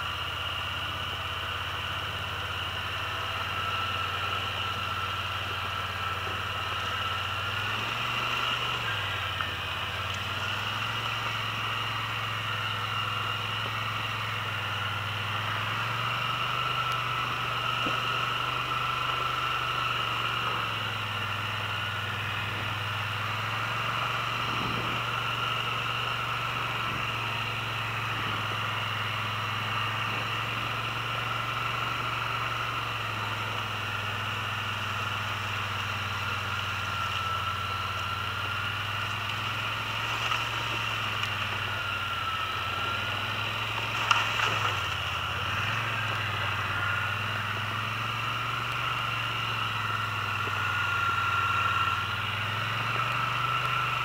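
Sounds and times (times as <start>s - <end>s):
atv engine revving: 0.0s - 54.0s
high whine: 0.0s - 54.0s.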